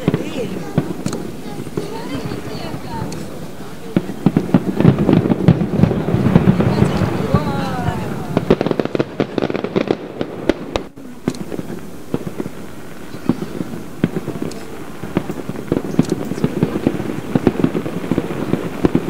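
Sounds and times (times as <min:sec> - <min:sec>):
distant fireworks cracking: 0:00.0 - 0:19.0.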